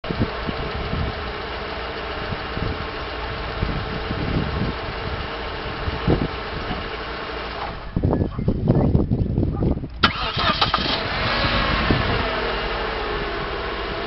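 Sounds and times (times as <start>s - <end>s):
car engine idling: 0.0s - 8.7s, 9.8s - 14.0s.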